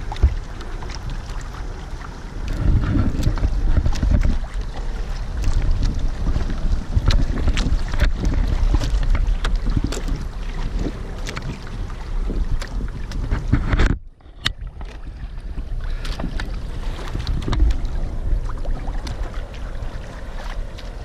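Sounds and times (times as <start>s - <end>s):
water slapping against hulls: 0.0s - 21.0s
wind buffeting the microphone: 0.0s - 21.0s.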